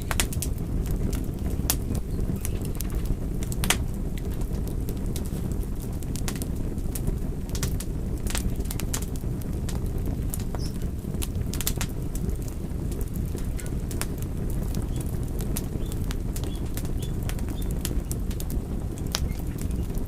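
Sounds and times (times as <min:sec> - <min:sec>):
low rumble of flames: 0:00.0 - 0:20.0
wood fire popping and snapping: 0:00.0 - 0:20.0.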